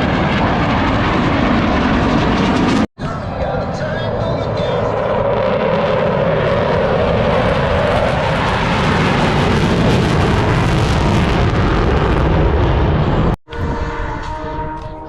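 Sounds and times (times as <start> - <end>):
jet roar overhead: 0.0 - 15.0.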